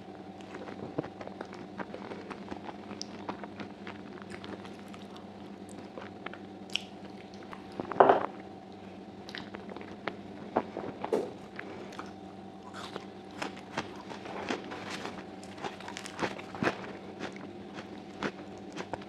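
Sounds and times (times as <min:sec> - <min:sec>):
close chewing and mouth sounds: 0:00.2 - 0:08.0, 0:08.6 - 0:19.0.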